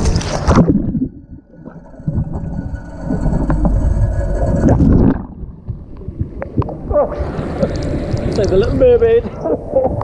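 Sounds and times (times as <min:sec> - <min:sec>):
muffled underwater water rumble: 0:00.0 - 0:10.0.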